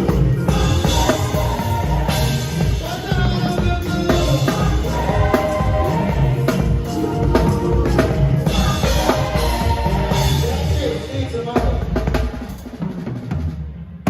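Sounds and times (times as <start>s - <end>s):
instruments holding pitched notes: 0.0s - 11.3s
drum kit played hard: 0.0s - 14.0s.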